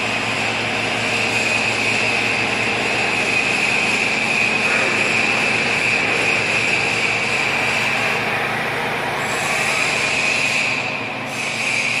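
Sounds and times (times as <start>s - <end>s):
boring mill running with whine: 0.0s - 12.0s.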